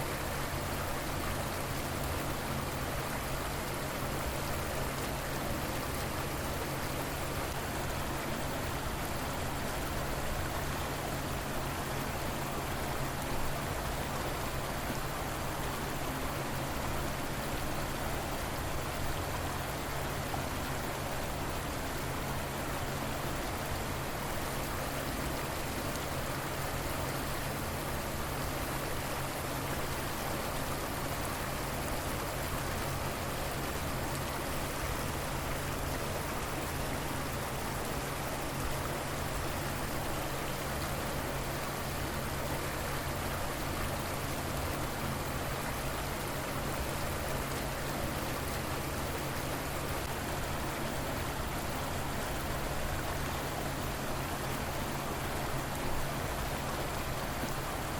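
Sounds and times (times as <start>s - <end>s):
river flowing: 0.0s - 57.9s.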